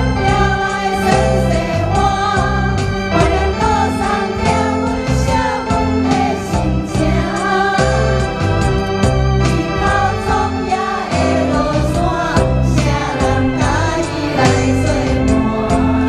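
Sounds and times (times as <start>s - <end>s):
backing track with keyboard: 0.0s - 16.0s
person singing: 0.0s - 16.0s.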